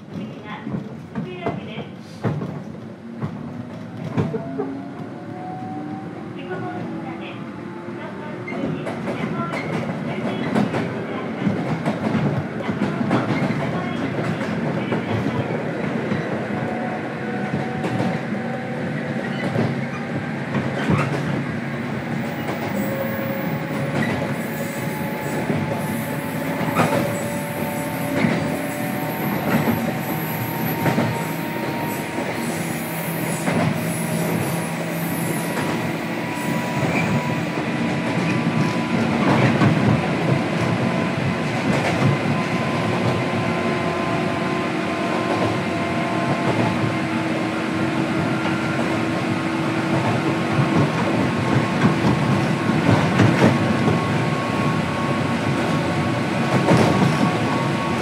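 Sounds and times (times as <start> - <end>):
train running noise: 0.0 - 58.0.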